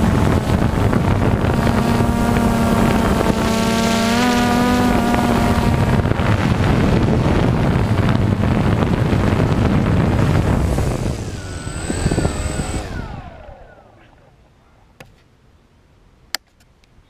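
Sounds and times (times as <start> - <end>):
wind rush on microphone: 0.0 - 14.2
drone propellers buzzing: 0.0 - 14.6.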